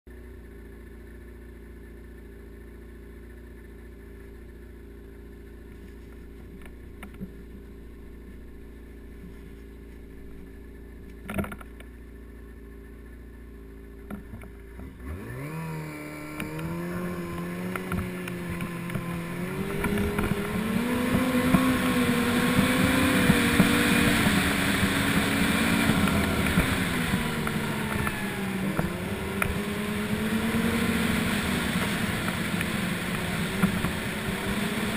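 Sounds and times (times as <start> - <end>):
snowmobile engine idling and revving: 0.1 - 34.9.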